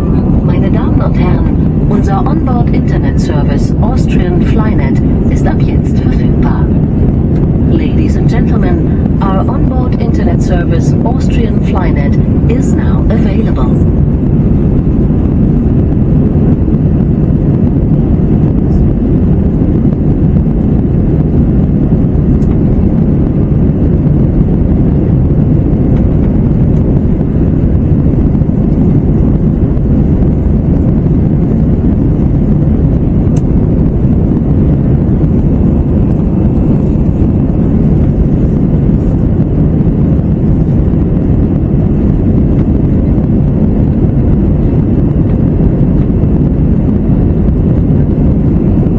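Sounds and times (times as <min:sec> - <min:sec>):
airplane cabin engine rumble: 0:00.0 - 0:48.9
faint high whine: 0:00.0 - 0:48.9.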